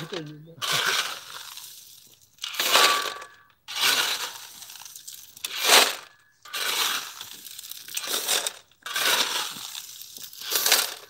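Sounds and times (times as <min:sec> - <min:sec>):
crunching rustling noises: 0:00.0 - 0:11.0.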